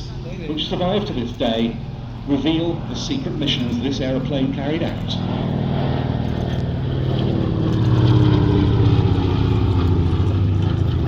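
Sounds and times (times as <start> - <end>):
propeller plane engines droning: 0.0 - 11.0.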